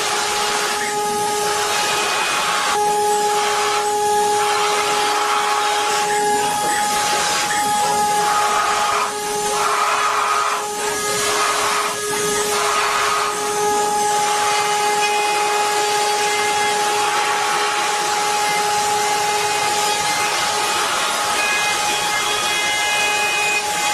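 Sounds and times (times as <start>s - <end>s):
machine tool hissing and humming: 0.0s - 23.9s.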